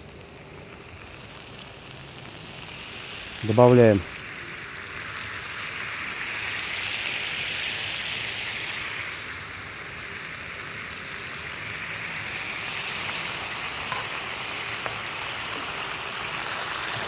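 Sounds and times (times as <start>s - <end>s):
sauce sizzling and bubbling: 0.0s - 17.0s.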